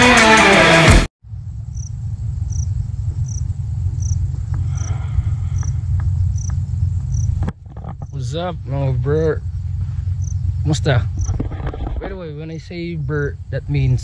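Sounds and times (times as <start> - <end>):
insect chirping: 1.3 - 11.5, 12.2 - 14.0.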